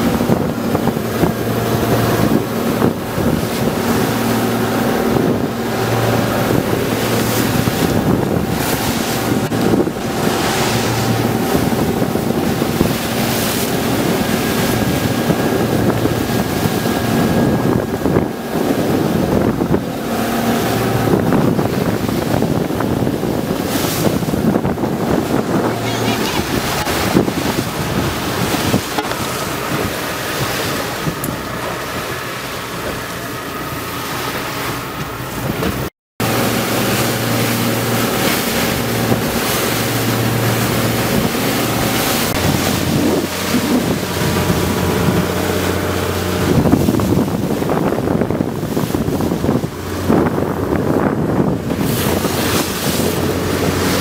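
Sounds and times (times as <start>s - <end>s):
boat engine running: 0.0s - 54.0s
water rushing along hull: 0.0s - 54.0s
wind buffeting microphone: 0.0s - 54.0s.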